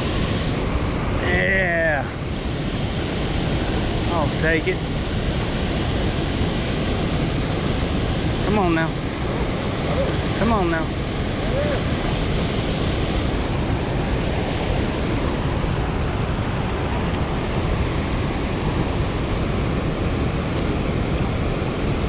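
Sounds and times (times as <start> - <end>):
water roaring from a dam: 0.0 - 22.0.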